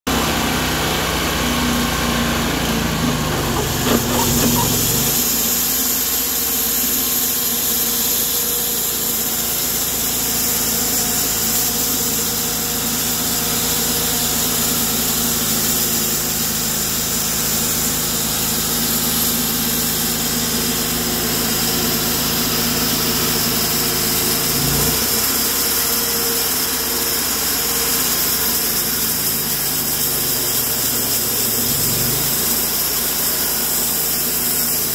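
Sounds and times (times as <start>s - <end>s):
bandsaw sawmill running: 0.1s - 34.9s.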